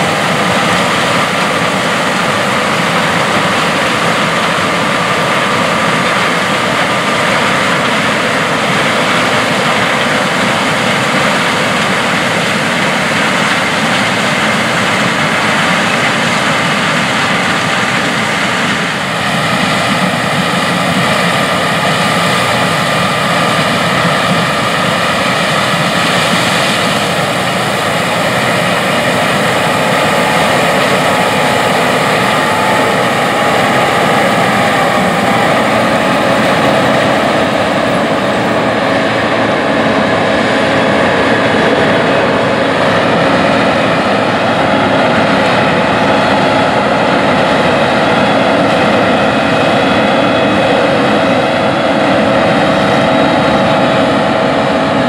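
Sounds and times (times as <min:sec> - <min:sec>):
combine harvester droning: 0:00.0 - 0:55.0
steady whining tones: 0:00.0 - 0:55.0.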